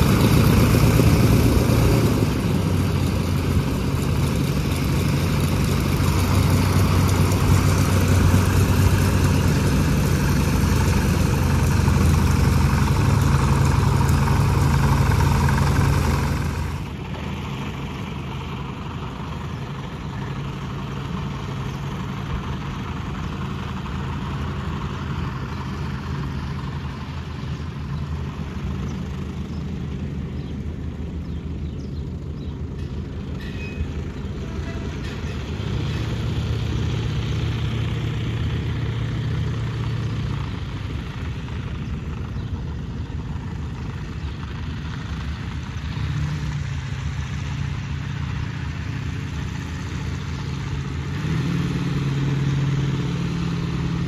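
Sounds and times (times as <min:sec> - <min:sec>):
light aircraft engine and propeller: 0:00.0 - 0:54.0.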